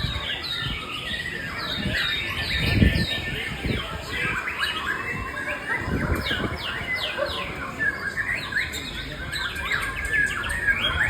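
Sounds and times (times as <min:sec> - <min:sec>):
bird singing whistles and warbles: 0:00.0 - 0:11.0.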